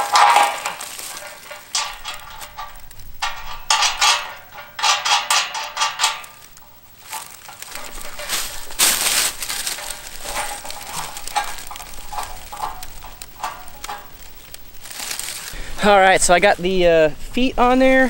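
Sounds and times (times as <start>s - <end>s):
dry leaves crunching and rustling: 0.0s - 18.0s.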